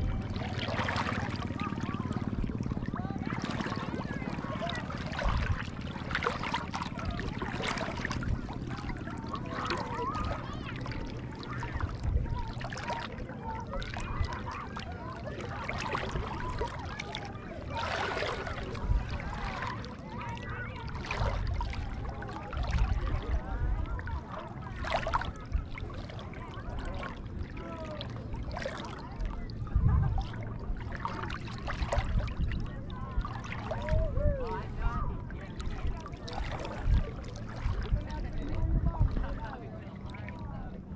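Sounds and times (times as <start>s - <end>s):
distant people chattering: 0.0s - 40.9s
water sloshing and lapping: 0.0s - 40.9s.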